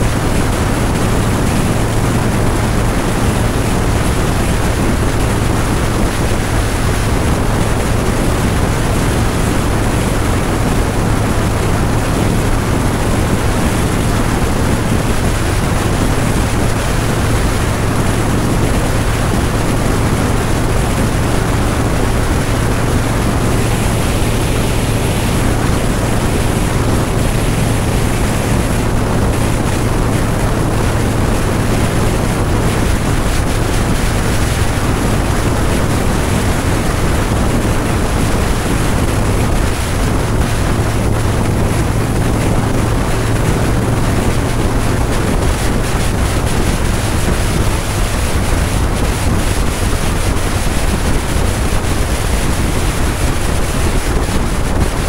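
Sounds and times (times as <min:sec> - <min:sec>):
motorcycle engine drone: 0:00.0 - 0:55.0
wind rush on microphone: 0:00.0 - 0:55.0.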